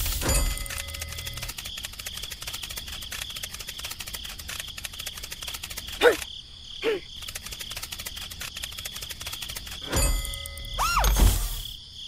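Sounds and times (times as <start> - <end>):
insects trilling: 0.2 - 12.0.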